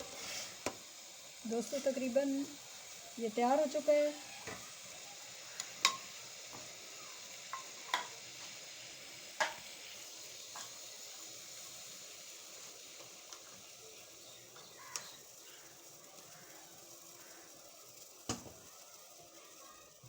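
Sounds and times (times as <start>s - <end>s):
pot boiling with pops: 0.0s - 20.0s.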